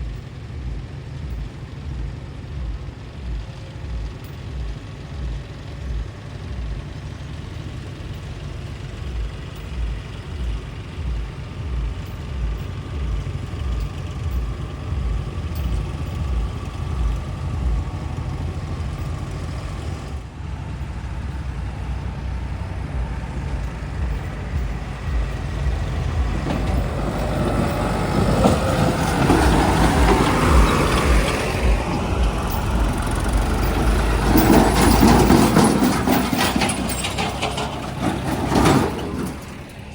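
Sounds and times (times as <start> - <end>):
heavy diesel engine throbbing: 0.0 - 39.9.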